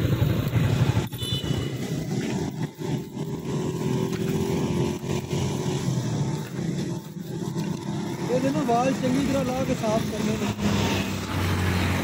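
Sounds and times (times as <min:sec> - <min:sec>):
road traffic: 0:00.0 - 0:12.0
vehicle engine running: 0:00.0 - 0:12.0.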